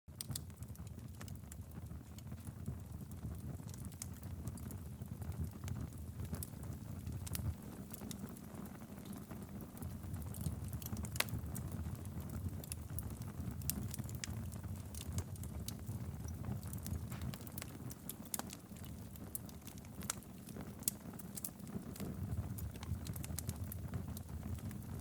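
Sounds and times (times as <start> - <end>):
low rumble of flames: 0.1 - 25.0
wood fire pops and snaps: 0.1 - 25.0.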